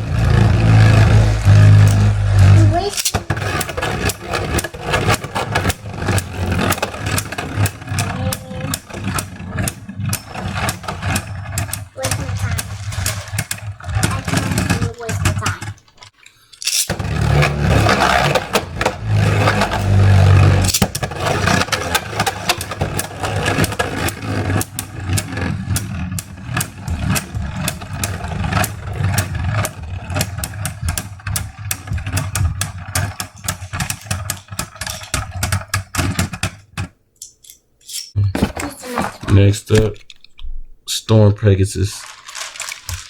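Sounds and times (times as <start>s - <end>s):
spinning tops whirring: 0.0s - 16.1s, 16.7s - 36.9s
spinning tops clacking: 0.0s - 38.2s.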